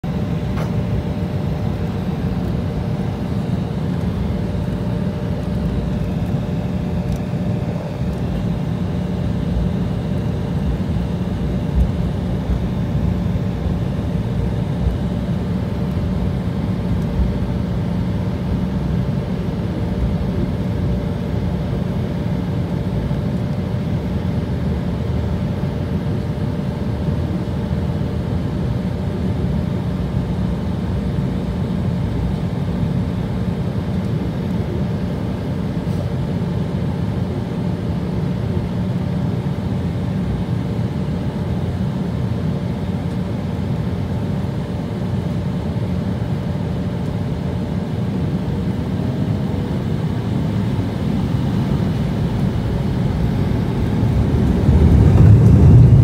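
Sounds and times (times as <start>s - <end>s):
aircraft cabin low rumble: 0.0s - 56.0s
faint steady hum: 0.0s - 56.0s.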